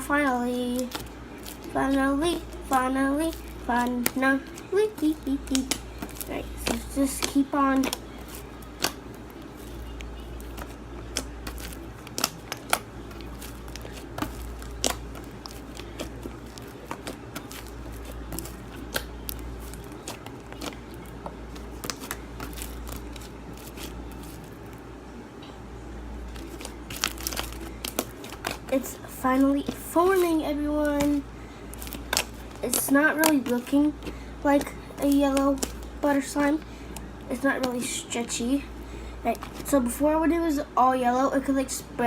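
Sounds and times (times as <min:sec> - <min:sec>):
low steady hum: 0:00.0 - 0:42.0
slime squishing and popping: 0:02.4 - 0:24.6, 0:26.3 - 0:37.8.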